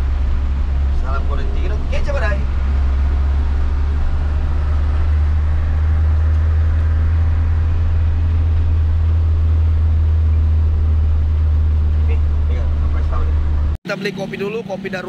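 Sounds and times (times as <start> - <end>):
engine and road noise: 0.0 - 15.0.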